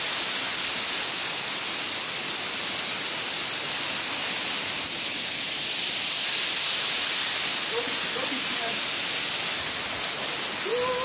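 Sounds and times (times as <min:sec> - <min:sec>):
waterfall hissing onto rock: 0:00.0 - 0:11.0.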